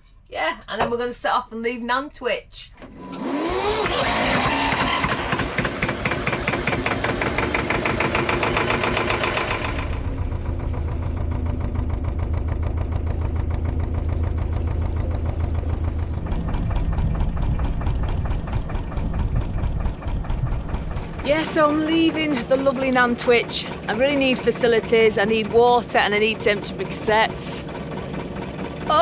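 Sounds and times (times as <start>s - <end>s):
boat engine starting and running: 2.7s - 29.0s.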